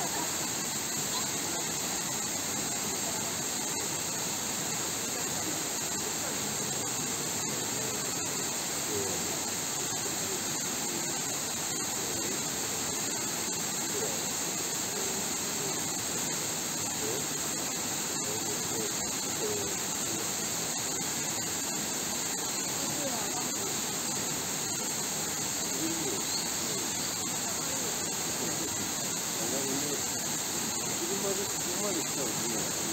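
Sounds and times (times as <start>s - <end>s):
faint voices of people: 0.0s - 32.9s
waterfall rushing: 0.0s - 32.9s.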